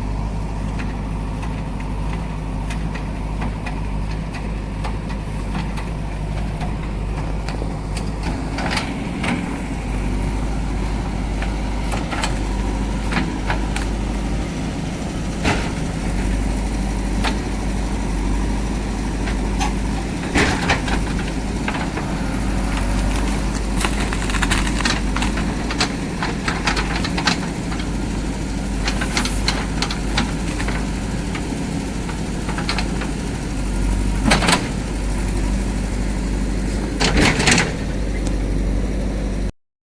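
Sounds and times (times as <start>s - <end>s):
diesel engine running: 0.0s - 39.5s.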